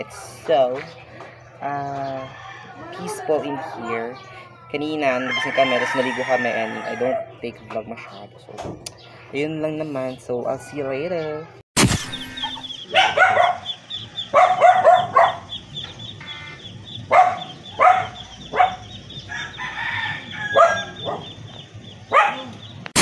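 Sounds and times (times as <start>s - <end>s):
chickens calling: 0.0s - 23.0s
ducklings peeping: 0.0s - 23.0s.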